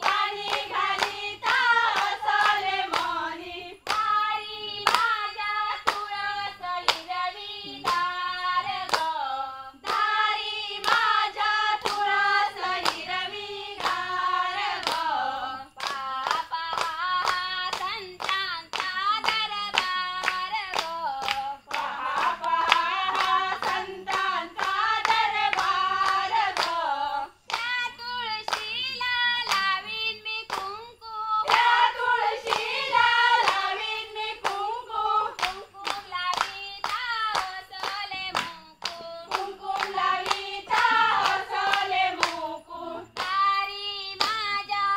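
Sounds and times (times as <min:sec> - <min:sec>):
rhythmic hand clapping: 0:00.0 - 0:44.9
women singing folk song: 0:00.0 - 0:44.9.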